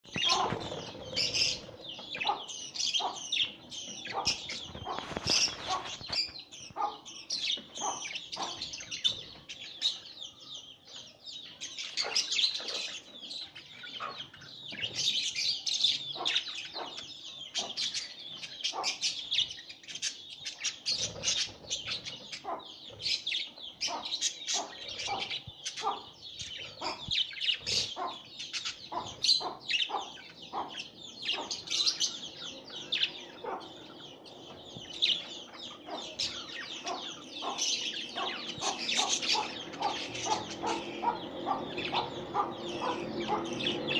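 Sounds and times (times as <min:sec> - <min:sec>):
budgerigars chirping: 0:00.1 - 0:43.9.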